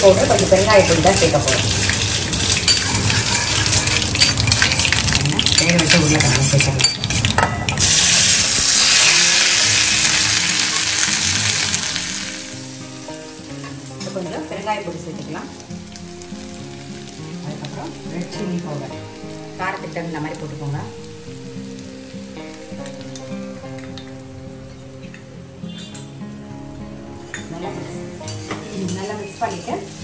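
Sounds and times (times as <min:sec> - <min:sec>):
hot oil sizzling: 0:00.0 - 0:30.0.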